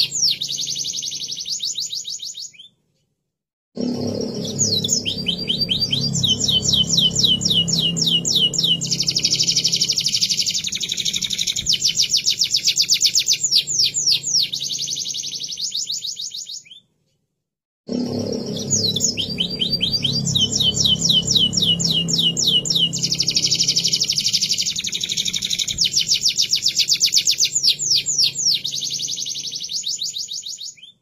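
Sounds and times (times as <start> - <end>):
canary singing trills: 0.0 - 2.7, 4.0 - 16.8, 18.2 - 31.0.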